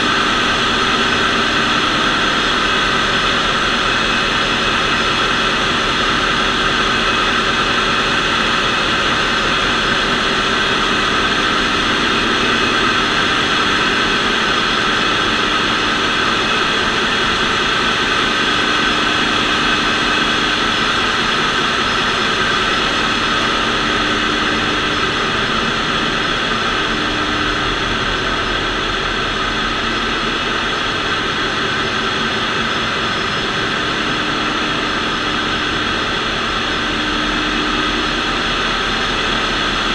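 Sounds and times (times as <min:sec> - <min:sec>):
engine room machinery din: 0:00.0 - 0:39.9
high machinery whines: 0:00.0 - 0:39.9.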